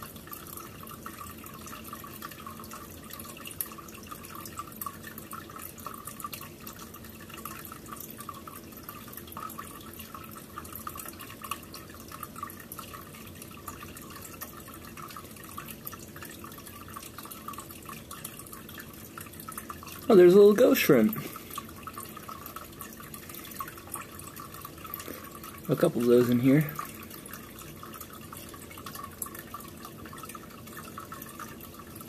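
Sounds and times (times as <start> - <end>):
aquarium water trickling: 0.0 - 32.0
small drips and splashes: 0.0 - 32.0.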